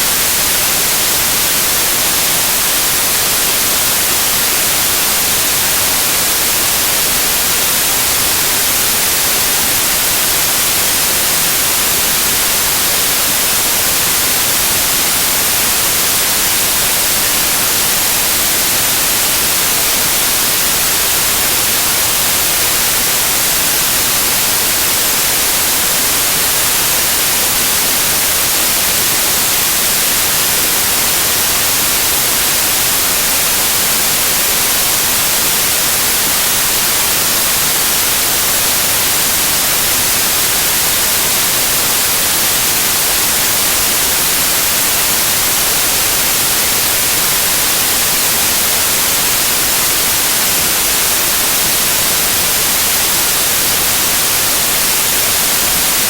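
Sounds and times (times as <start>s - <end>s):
loud white noise hiss: 0.0s - 56.0s.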